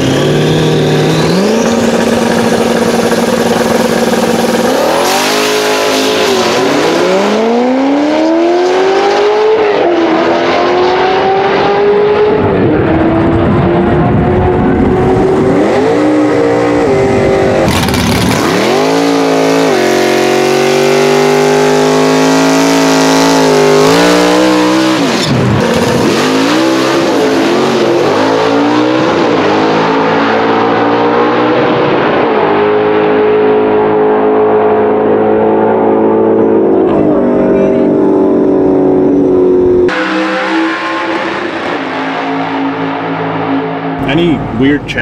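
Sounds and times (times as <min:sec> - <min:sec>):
drag car engine revving: 0:00.0 - 0:45.0.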